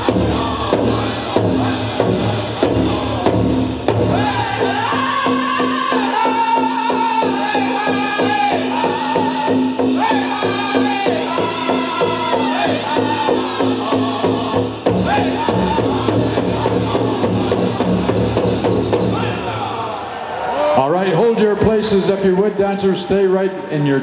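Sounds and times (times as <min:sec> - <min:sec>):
big drum fast beat: 0:00.0 - 0:19.8
men singing in unison: 0:00.0 - 0:19.8.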